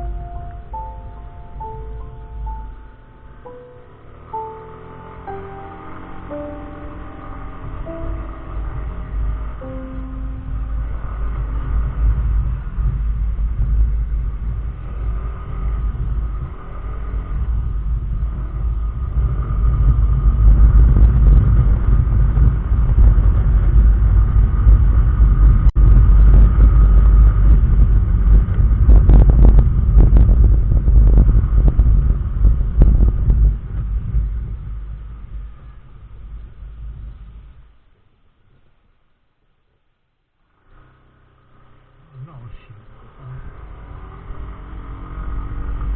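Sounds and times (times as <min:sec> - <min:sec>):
scooter engine running: 0:00.0 - 0:37.2
wind buffeting helmet camera: 0:00.0 - 0:38.7.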